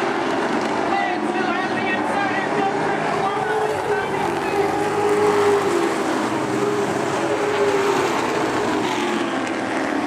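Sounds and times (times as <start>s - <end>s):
race truck engines: 0.0s - 10.0s.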